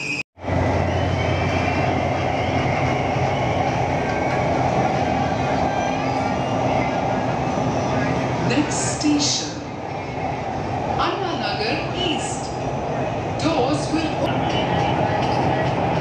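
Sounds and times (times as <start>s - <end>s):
train wheels rushing on rail: 0.0s - 16.0s.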